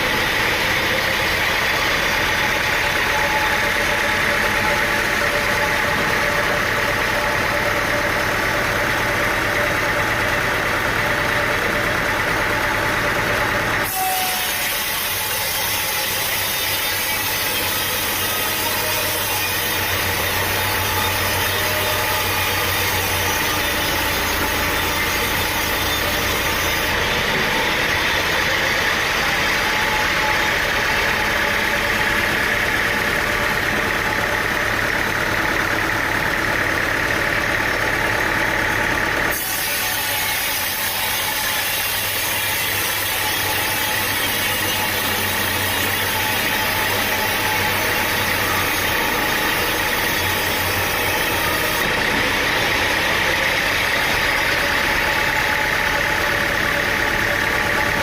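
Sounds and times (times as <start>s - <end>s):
machinery droning: 0.0s - 58.0s.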